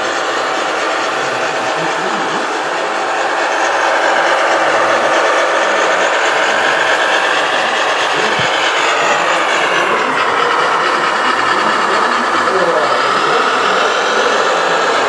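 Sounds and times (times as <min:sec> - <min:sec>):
model machines whirring and whining: 0:00.0 - 0:15.0.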